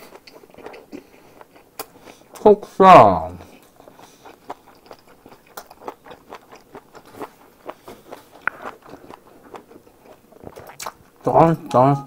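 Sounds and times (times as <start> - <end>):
person chewing food: 0.0 - 11.6.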